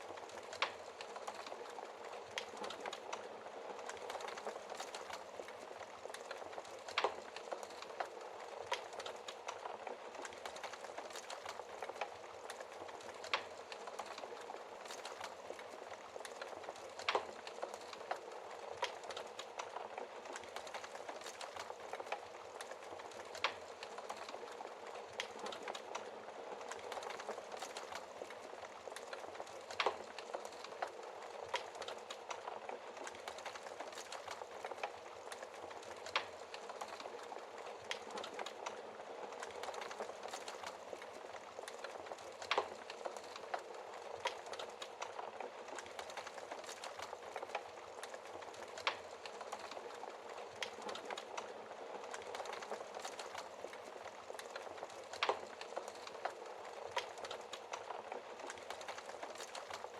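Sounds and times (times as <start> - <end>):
burning logs popping: 0.0 - 59.9
wood fire crackling: 0.0 - 59.9.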